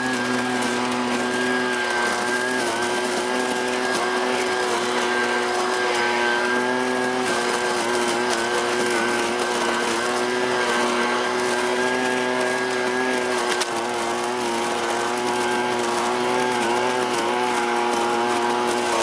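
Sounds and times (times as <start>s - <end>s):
blower-vacuum engine running: 0.0s - 19.0s.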